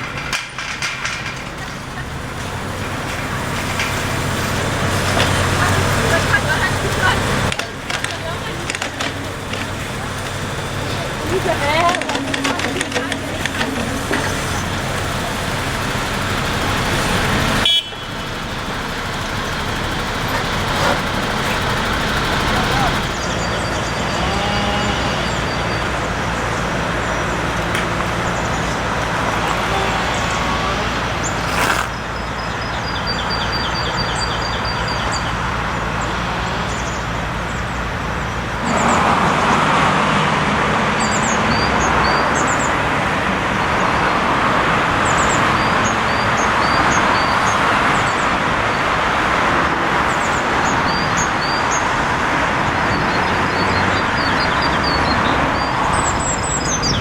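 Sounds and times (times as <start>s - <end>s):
birds chirping: 0.0s - 57.0s
rumble of vehicles and machinery: 0.0s - 57.0s.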